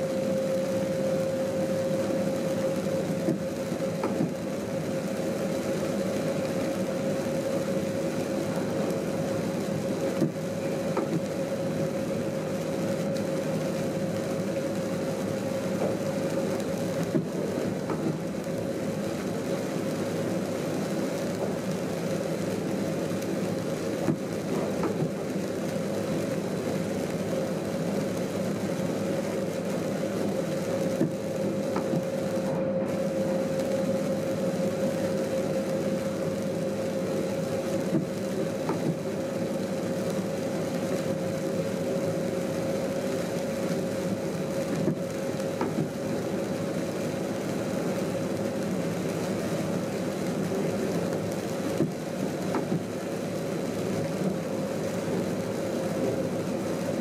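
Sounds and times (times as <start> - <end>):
train cab running hum: 0.0 - 57.0.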